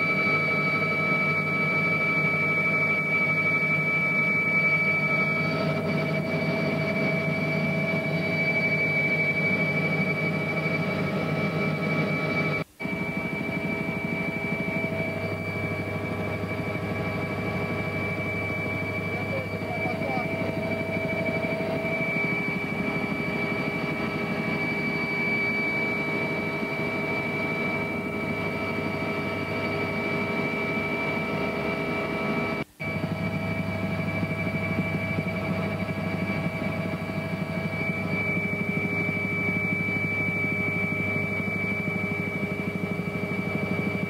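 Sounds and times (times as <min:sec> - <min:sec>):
constant high tone: 0:00.0 - 0:44.0
engine drone: 0:00.0 - 0:44.0.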